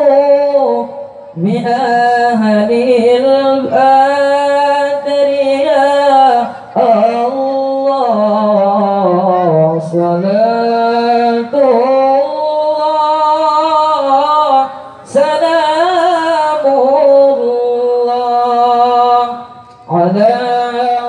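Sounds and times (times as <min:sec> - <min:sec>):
man singing unaccompanied: 0:00.0 - 0:21.0.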